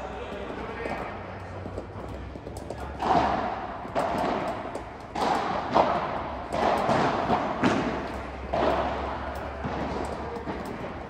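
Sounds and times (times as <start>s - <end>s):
rackets striking ball: 0.0s - 11.0s
ball bouncing: 0.2s - 11.0s.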